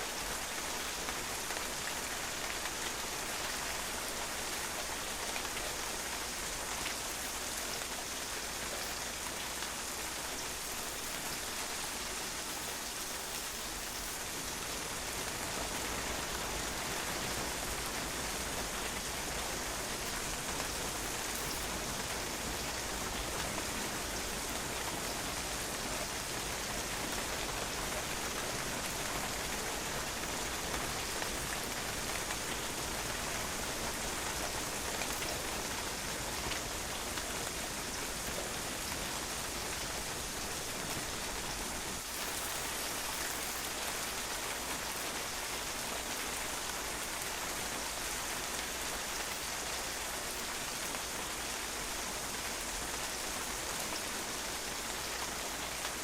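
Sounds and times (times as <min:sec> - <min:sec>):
rain splashing on a patio: 0:00.0 - 0:56.0.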